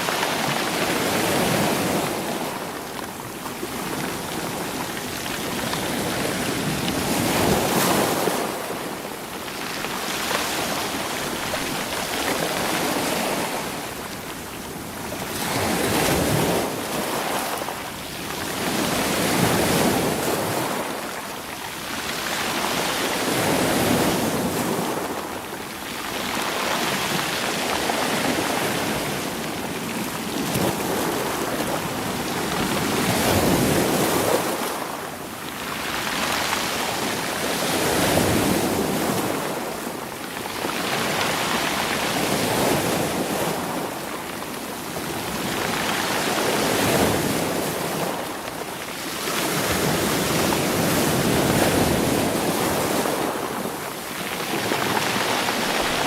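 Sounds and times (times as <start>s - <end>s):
sea waves washing over stones: 0.0s - 56.0s.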